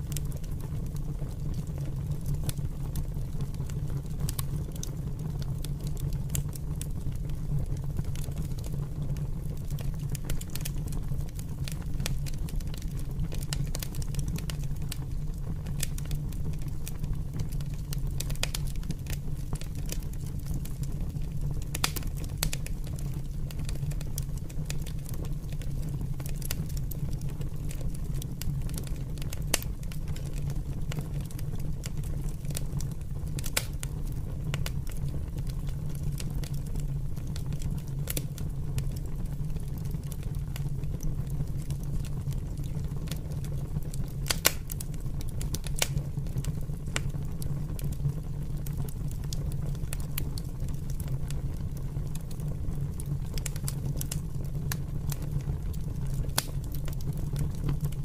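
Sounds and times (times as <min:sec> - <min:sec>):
fire crackling and popping: 0:00.0 - 0:58.0
low rumble of fire flames: 0:00.0 - 0:58.0.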